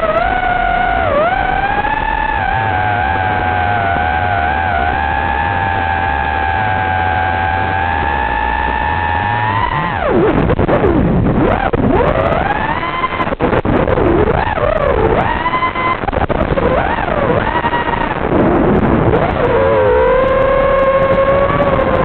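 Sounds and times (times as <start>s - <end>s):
quadcopter motors whining: 0.0s - 13.4s, 14.2s - 22.0s.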